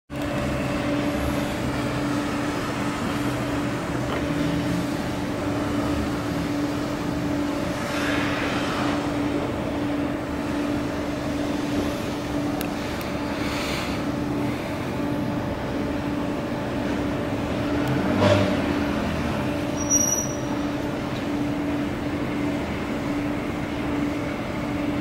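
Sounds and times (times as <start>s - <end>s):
mechanical hum: 0.1s - 25.0s.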